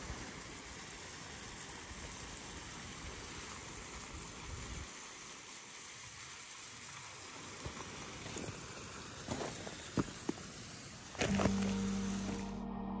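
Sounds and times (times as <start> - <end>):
rushing water hiss: 0.0 - 12.6.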